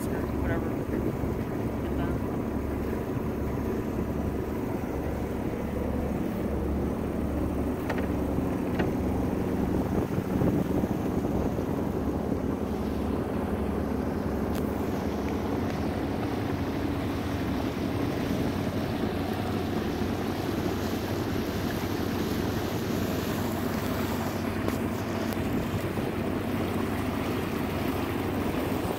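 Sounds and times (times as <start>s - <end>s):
diesel engine running: 0.0s - 28.9s
water rushing along hull: 0.0s - 28.9s.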